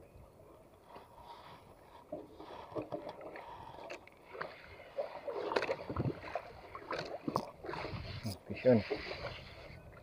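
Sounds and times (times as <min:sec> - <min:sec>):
water lapping against boat: 0:00.8 - 0:10.0.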